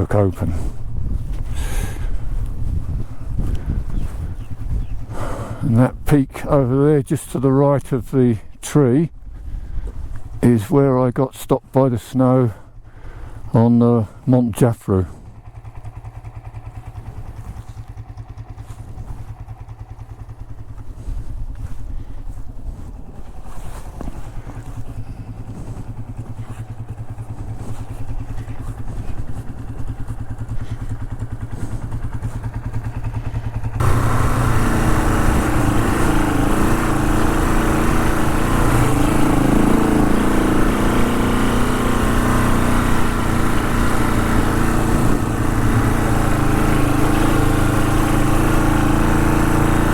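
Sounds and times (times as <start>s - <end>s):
motorcycle engine running: 0.0s - 7.3s, 9.1s - 10.6s, 12.3s - 49.9s.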